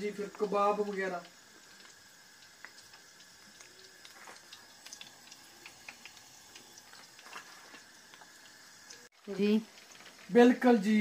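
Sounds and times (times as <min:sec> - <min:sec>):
deep-frying sizzle with pops: 0:00.0 - 0:11.0.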